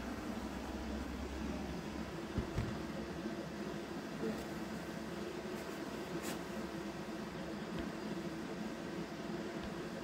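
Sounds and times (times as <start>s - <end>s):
fan motor humming: 0.0s - 10.0s.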